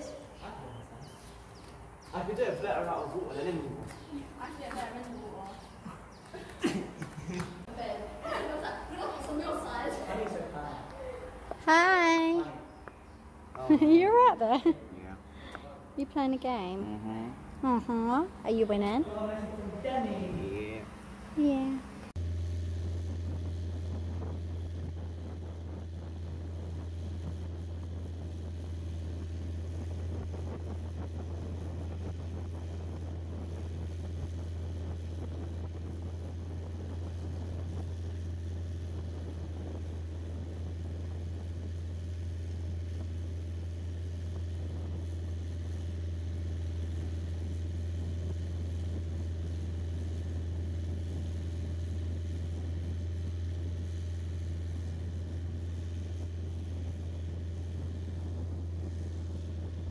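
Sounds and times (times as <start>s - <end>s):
boat engine droning: 7.7s - 59.9s.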